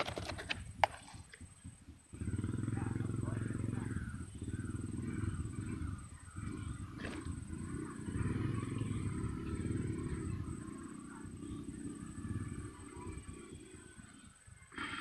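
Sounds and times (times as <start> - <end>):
insect trill: 0.0 - 15.0
rough low rumbling: 0.5 - 15.0.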